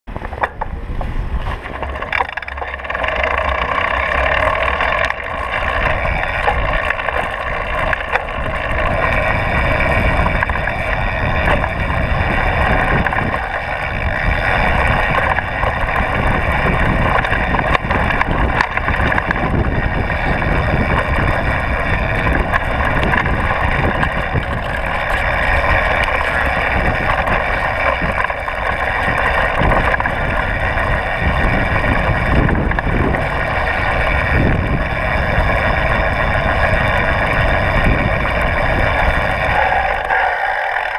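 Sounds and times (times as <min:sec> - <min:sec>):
bike clicks and knocks: 0:00.1 - 0:40.9
bike tyres rumbling on dirt: 0:00.1 - 0:40.9
wind rushing on microphone: 0:00.1 - 0:40.9.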